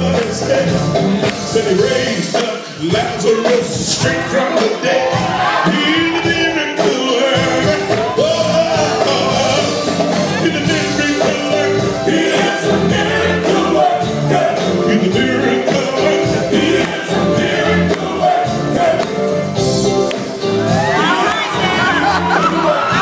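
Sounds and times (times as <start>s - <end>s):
man singing lead: 0.0s - 19.4s, 20.7s - 23.0s
male backing singers: 0.0s - 19.7s, 20.4s - 23.0s.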